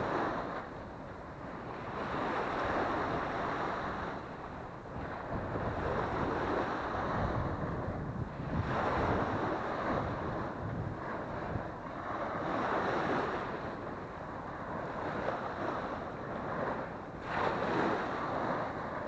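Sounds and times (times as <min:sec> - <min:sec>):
small waves washing onto sand: 0:00.0 - 0:19.0
wind rumbling on microphone: 0:00.0 - 0:19.0.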